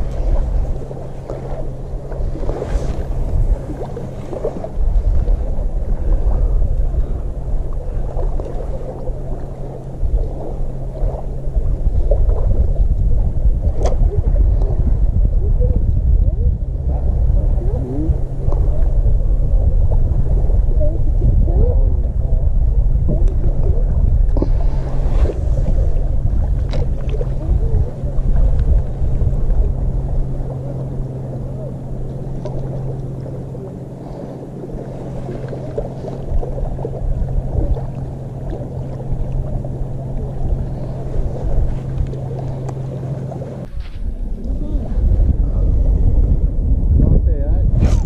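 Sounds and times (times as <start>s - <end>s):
low hum: 0.0s - 48.0s
wind buffeting microphone: 0.0s - 48.0s.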